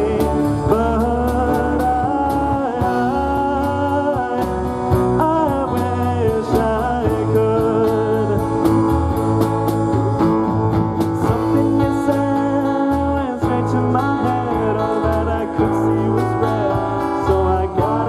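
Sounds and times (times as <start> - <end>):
acoustic guitar: 0.0 - 18.0
drum kit: 0.0 - 18.0
electric bass: 0.0 - 18.0
electric guitar: 0.0 - 18.0.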